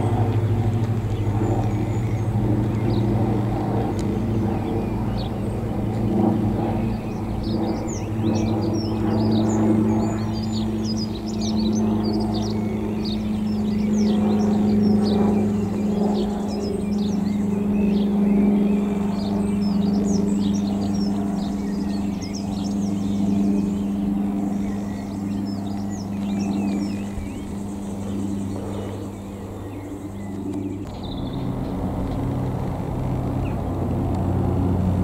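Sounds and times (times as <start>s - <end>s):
propeller aircraft droning overhead: 0.0s - 35.0s
songbirds chirping: 0.0s - 35.0s.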